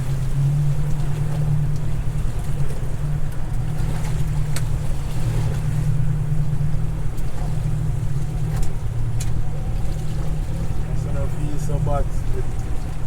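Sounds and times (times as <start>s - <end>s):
motorboat engine droning: 0.0s - 13.0s
sea noise: 0.0s - 13.0s
wind: 0.0s - 13.0s.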